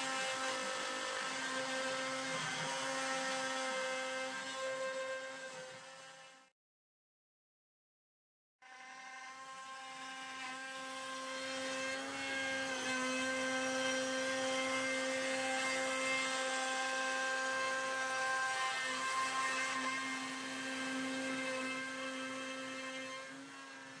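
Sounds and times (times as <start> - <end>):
router spindle whining: 0.0 - 6.4, 8.7 - 24.0
router cutting wood: 0.0 - 6.5, 8.6 - 24.0.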